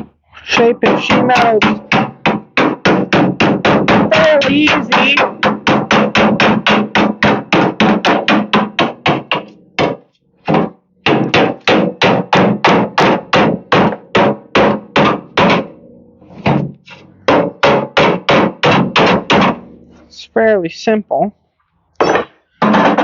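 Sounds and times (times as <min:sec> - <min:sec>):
hammer blows on sheet metal: 0:00.0 - 0:20.1.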